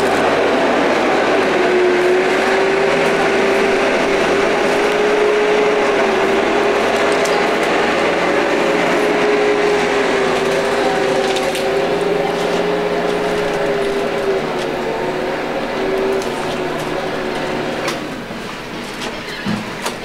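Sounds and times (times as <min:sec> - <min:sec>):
machine droning: 0:00.0 - 0:20.0.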